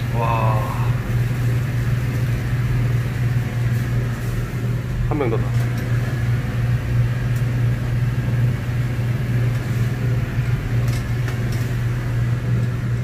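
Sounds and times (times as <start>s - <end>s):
gas burner humming: 0.0s - 13.0s.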